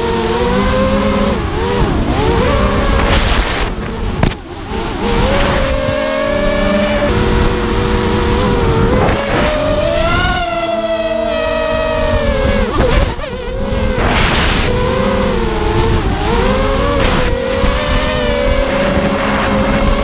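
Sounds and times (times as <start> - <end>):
quadcopter motors whining: 0.0 - 20.0
rushing wind: 0.0 - 20.0.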